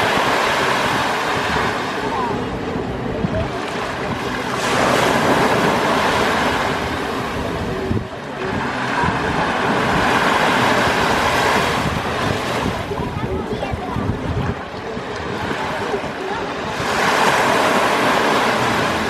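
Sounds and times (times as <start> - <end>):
waves rushing onto beach: 0.0 - 19.0.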